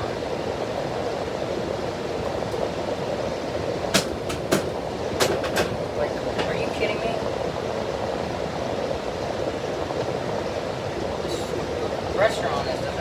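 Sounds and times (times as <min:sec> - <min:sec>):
air conditioner fan humming: 0:00.0 - 0:13.0.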